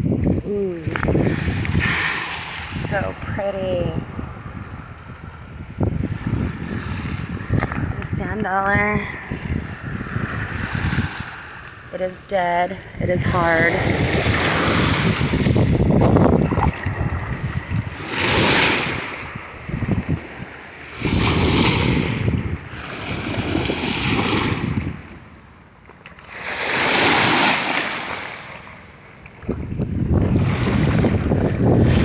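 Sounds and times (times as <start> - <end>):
surf washing over sand: 0.0 - 25.3, 26.2 - 28.8, 29.5 - 32.0
wind rumbling on microphone: 0.0 - 32.0.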